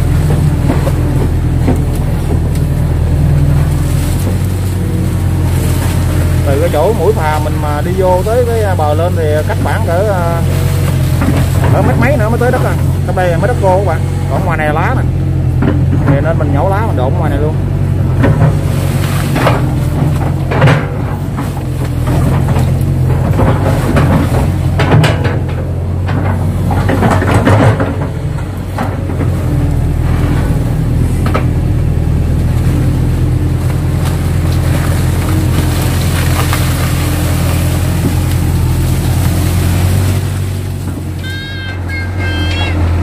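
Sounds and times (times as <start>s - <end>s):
palm fronds crackling and snapping: 0.0s - 13.3s, 18.2s - 41.7s
diesel engine running: 0.0s - 43.0s.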